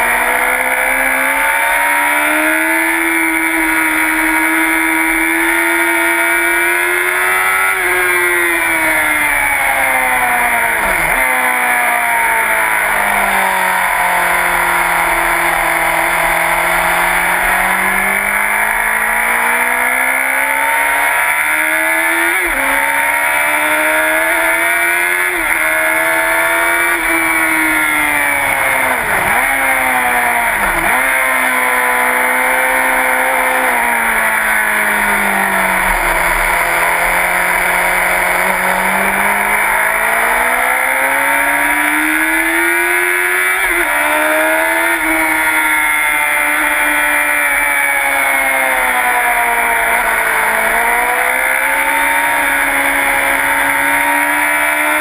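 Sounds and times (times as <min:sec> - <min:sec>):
motorcycle engine revving and shifting: 0:00.0 - 0:55.0.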